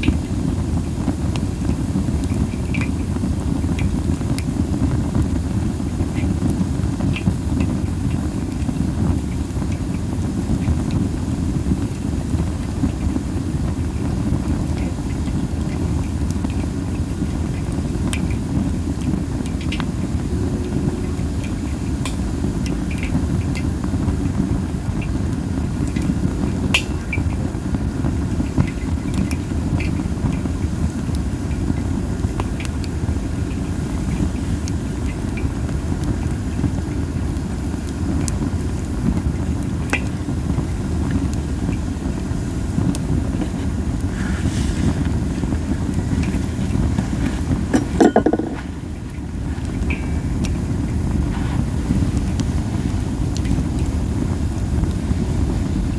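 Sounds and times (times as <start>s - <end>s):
campfire pops and crackles: 0.0s - 20.4s, 22.0s - 55.9s
wind rumble on microphone: 0.0s - 55.9s.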